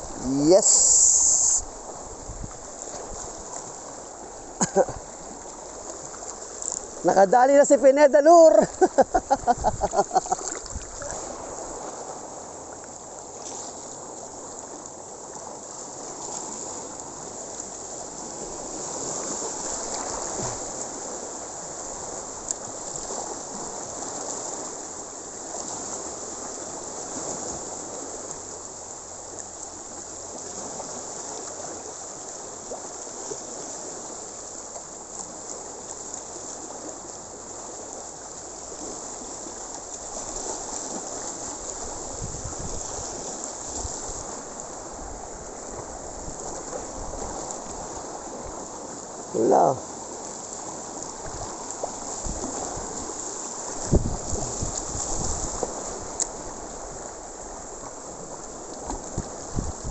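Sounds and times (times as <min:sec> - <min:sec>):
sea water washing over rocks: 0:00.0 - 0:59.9.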